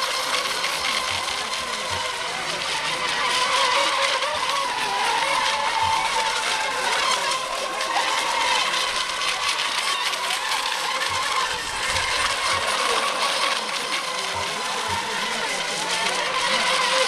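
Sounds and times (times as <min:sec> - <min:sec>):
model boat motor whine: 0:00.0 - 0:17.0.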